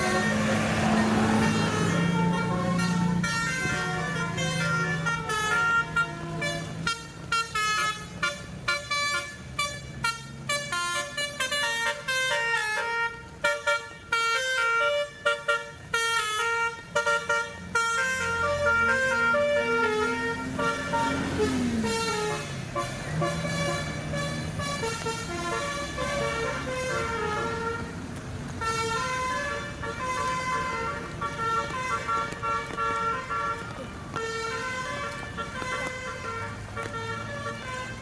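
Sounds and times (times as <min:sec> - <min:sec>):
bus musical horn melody: 0:00.0 - 0:38.0.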